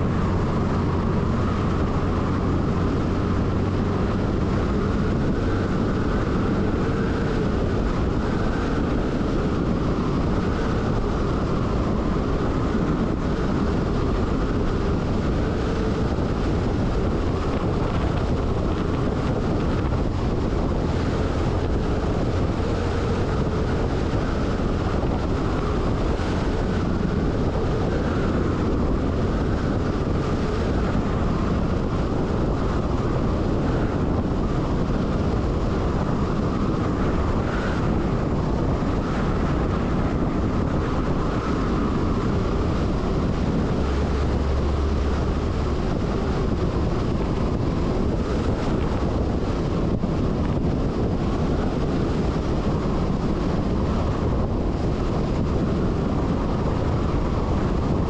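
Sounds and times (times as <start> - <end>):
truck engine and tyres rumbling: 0.0 - 58.0
wind rushing over microphone: 0.0 - 58.0.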